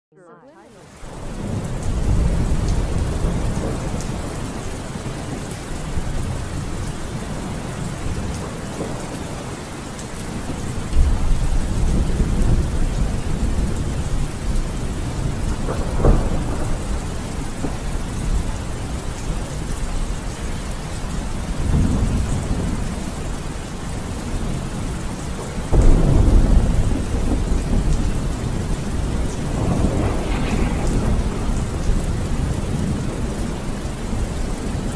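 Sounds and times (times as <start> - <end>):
steady rain: 0.6 - 34.9
rolling thunder: 1.0 - 34.9.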